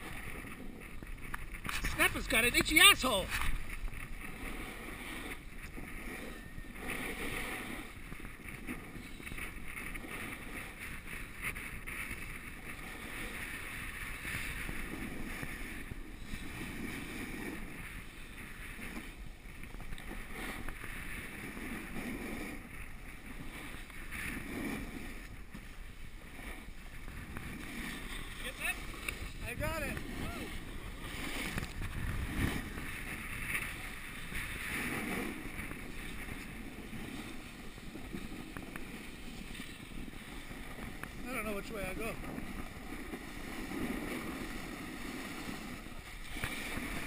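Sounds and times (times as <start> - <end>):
snowboard scraping over snow: 0.0 - 47.0
wind on microphone: 0.0 - 47.0.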